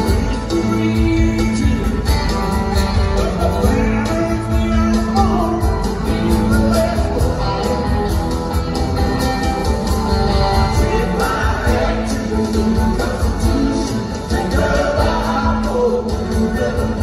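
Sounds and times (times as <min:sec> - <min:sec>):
man singing lead vocal: 0:00.0 - 0:07.7, 0:10.5 - 0:17.0
live rock band playing: 0:00.0 - 0:17.0.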